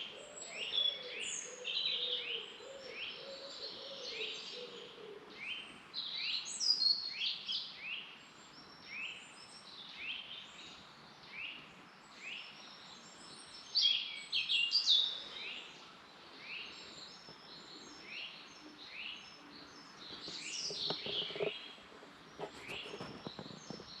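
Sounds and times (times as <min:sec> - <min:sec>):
birds singing: 0:00.0 - 0:24.0.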